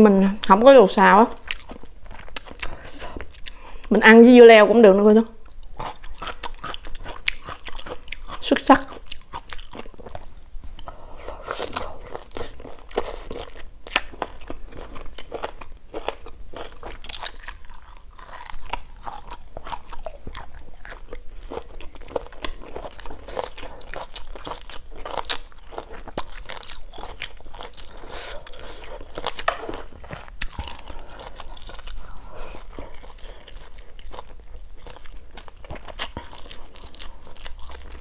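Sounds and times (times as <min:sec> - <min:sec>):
chewing crunches: 0:01.4 - 0:03.7, 0:05.6 - 0:38.0.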